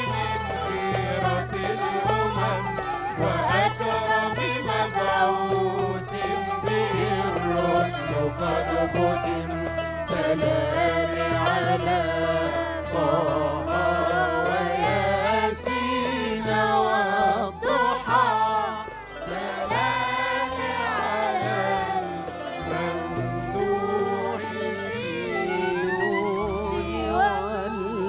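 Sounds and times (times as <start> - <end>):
chorus singing devotional song: 0.0 - 28.0
sustained low bass: 0.0 - 28.0
violin: 0.0 - 28.0.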